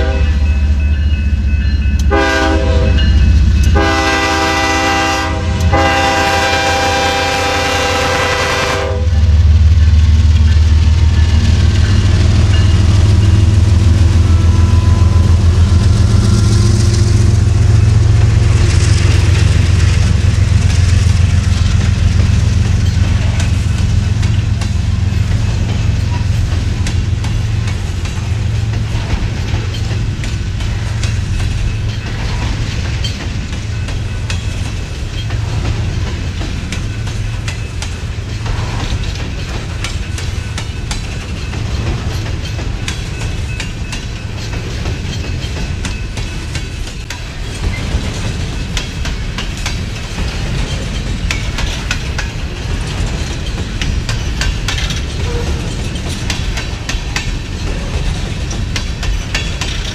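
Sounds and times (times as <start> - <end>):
low diesel locomotive rumble: 0.0 - 59.9
wheels clicking over rail joints: 3.0 - 59.9.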